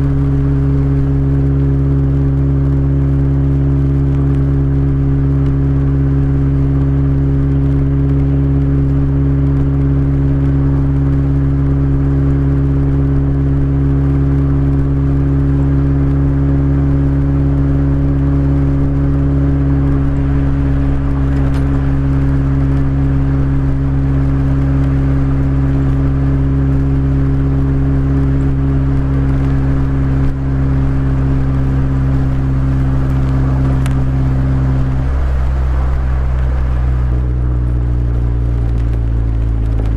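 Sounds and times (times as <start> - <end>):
car engine exhaust drone: 0.0 - 39.9.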